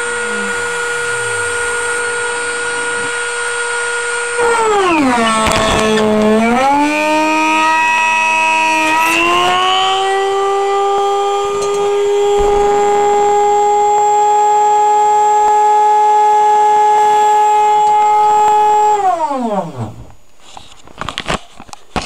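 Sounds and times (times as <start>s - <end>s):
machine motors whining: 0.0s - 20.2s.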